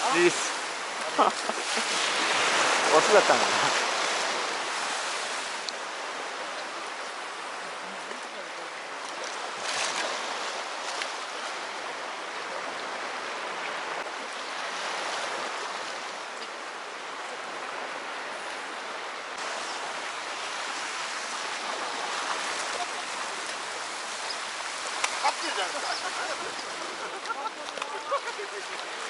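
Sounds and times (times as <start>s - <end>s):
water rushing at shoreline: 0.0s - 29.0s.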